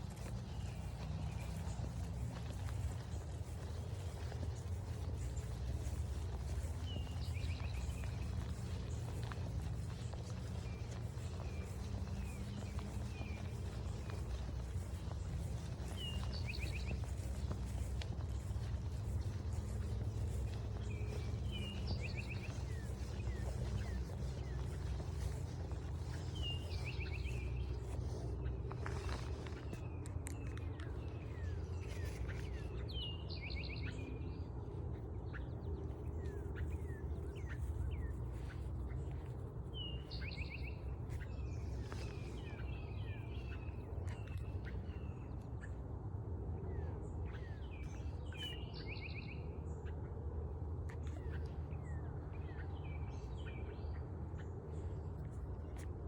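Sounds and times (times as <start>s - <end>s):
low background rumble: 0.0s - 56.0s
songbird singing: 0.0s - 56.0s.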